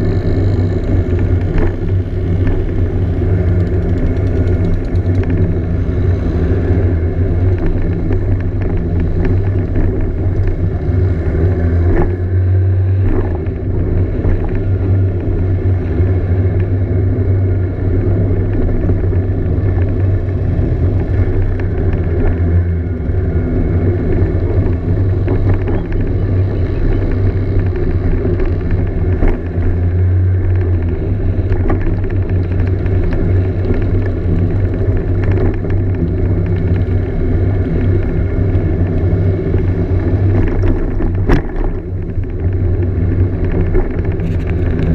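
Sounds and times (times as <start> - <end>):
scooter engine droning: 0.0 - 44.9.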